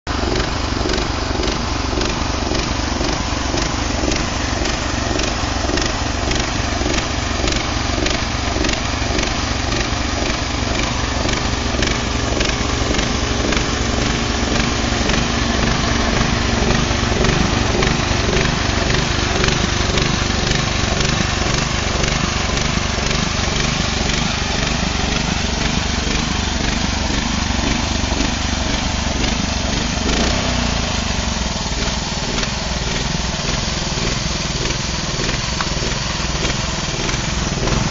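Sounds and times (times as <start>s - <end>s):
band sawmill cutting wood: 0.1s - 37.9s.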